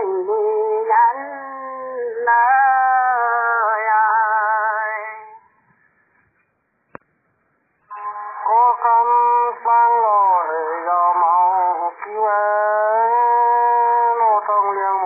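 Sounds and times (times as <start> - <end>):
person singing unaccompanied: 0.0 - 5.6, 7.9 - 15.0.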